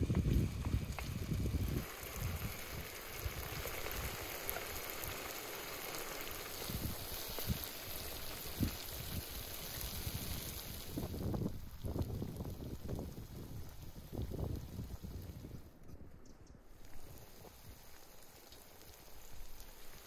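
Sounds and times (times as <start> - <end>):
wind rumble on microphone: 0.0 - 5.2, 6.6 - 17.8
food sizzling in a wok: 0.0 - 15.6, 16.8 - 20.0.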